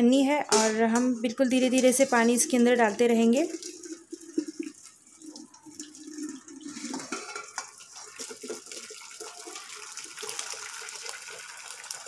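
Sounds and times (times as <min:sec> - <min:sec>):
water pouring into steel pot: 0:01.7 - 0:12.0.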